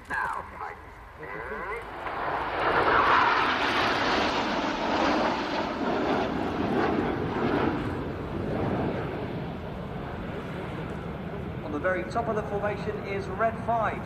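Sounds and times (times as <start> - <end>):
jet engines roaring past: 0.0 - 14.0.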